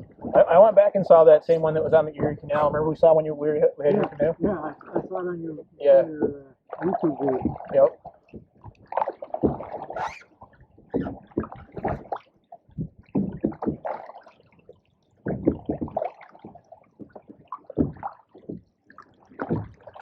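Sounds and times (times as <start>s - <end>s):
paddle water gurgling and sloshing: 0.0s - 20.0s.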